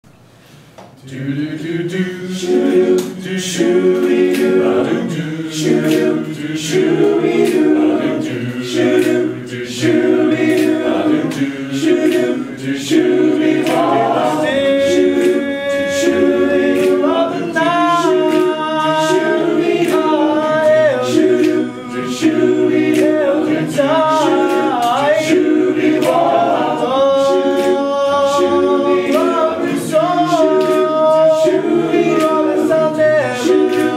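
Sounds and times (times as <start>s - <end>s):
men singing a cappella: 1.0s - 33.9s.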